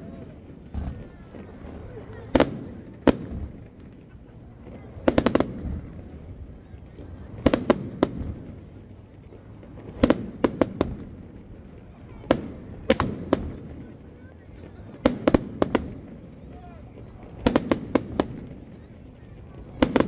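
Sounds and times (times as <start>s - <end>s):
fireworks exploding: 0.0s - 20.0s.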